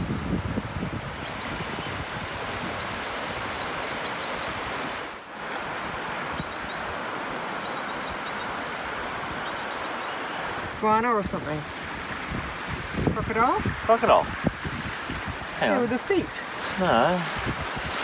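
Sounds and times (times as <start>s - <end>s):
wind buffeting microphone: 0.0s - 9.7s, 10.4s - 18.0s
surf washing on beach: 0.0s - 18.0s.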